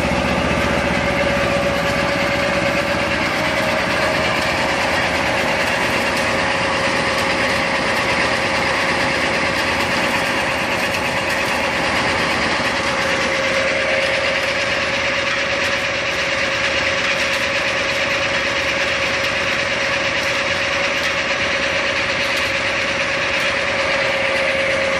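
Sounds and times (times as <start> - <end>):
constant whining tone: 0.0 - 24.9
harvesting machine engine running: 0.0 - 24.9.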